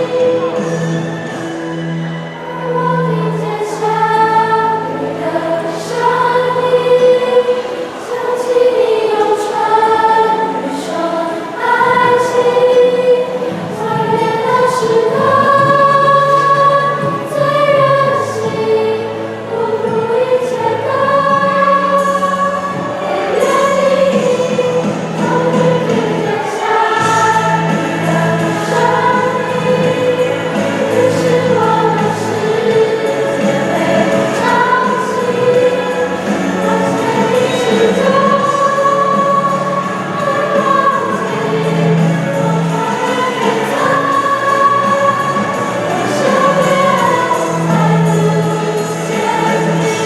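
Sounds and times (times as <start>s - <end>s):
choir singing slow song: 0.0s - 50.0s
low accompaniment: 8.2s - 50.0s.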